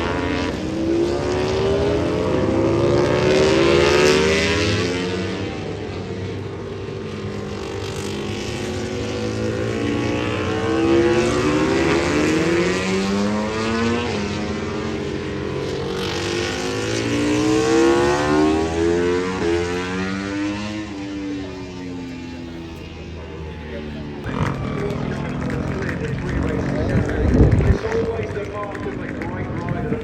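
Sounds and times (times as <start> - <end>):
racing motorcycles passing: 0.0 - 30.0.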